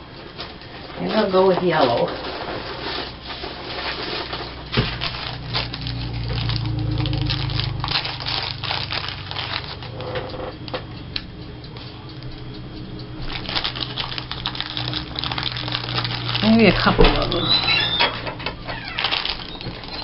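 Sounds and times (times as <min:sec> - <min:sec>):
low hum: 0:03.3 - 0:20.0.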